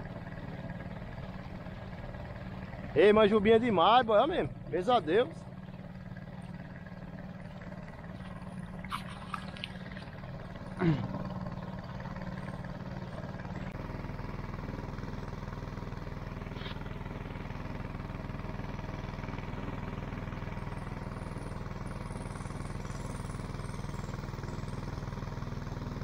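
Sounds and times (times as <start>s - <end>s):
boat motor humming: 0.0s - 26.0s.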